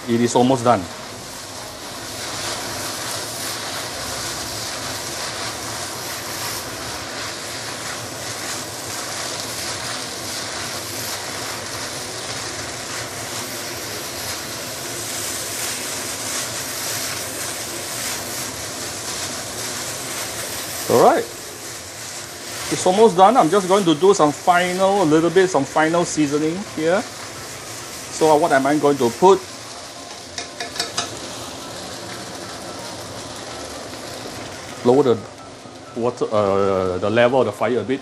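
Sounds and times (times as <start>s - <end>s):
noodles sizzling in a frying pan: 0.0s - 38.0s.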